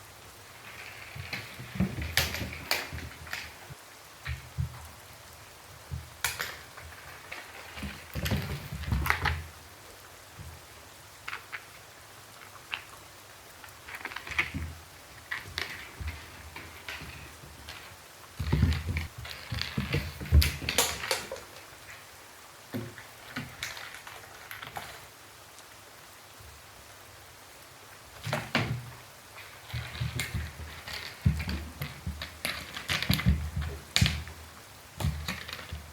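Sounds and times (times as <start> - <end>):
raindrops tapping on hard surface: 0.0 - 26.6, 28.1 - 35.9.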